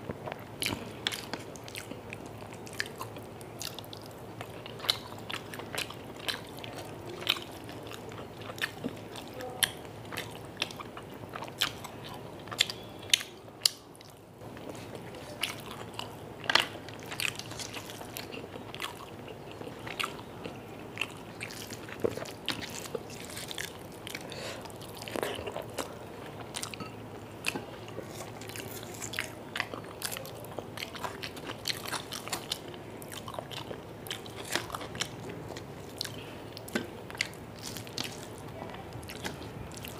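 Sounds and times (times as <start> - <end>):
chewing and mouth sounds: 0.2 - 39.9.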